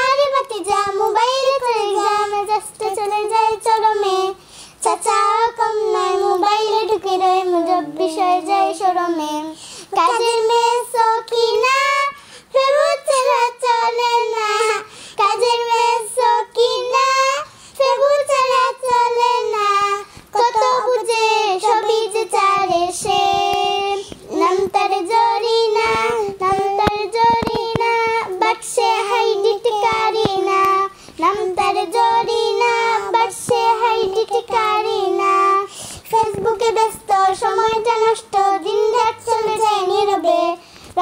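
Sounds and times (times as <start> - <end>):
child singing devotional song: 0.0 - 41.0.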